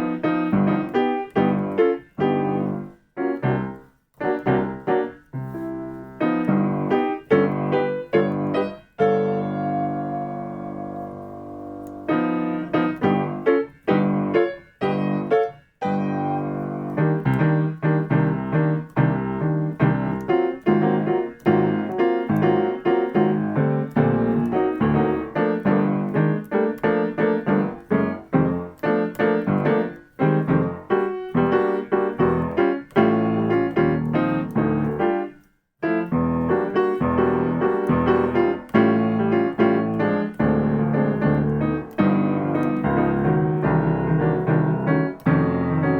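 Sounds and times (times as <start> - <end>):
jazz piano chords: 0.0 - 45.9.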